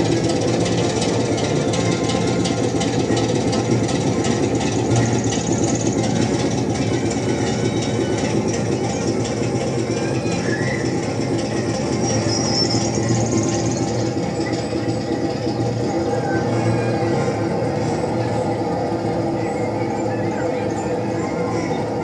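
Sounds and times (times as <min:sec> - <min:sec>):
locomotive engine through speaker: 0:00.0 - 0:22.0.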